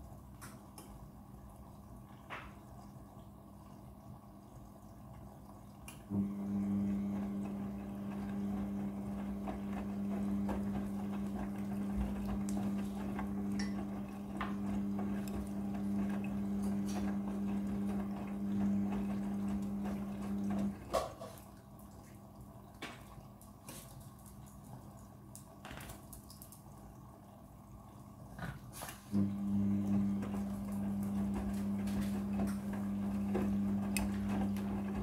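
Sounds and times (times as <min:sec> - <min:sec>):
washing machine motor hum: 0:00.0 - 0:35.0.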